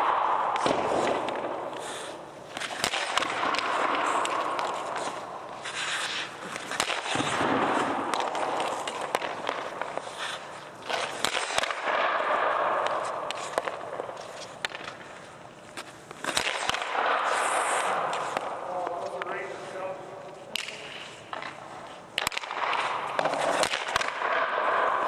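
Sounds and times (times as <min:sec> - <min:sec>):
pucks striking goalie pads: 0:00.0 - 0:19.5, 0:20.5 - 0:25.0
skates scraping on ice: 0:00.0 - 0:25.0
sticks shooting pucks: 0:00.0 - 0:25.0.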